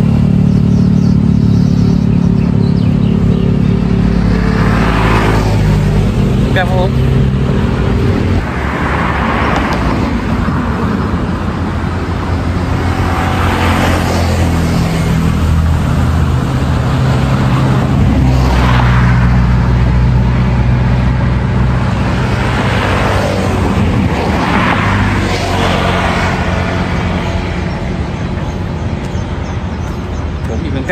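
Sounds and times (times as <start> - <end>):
low engine hum: 0.0 - 30.9
vehicles passing: 0.0 - 30.9.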